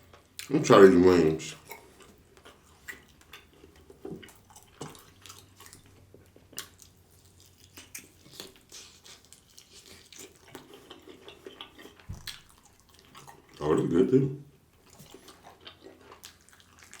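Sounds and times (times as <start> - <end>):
wet mouth clicks and smacks chewing: 1.6 - 13.6, 14.8 - 17.0.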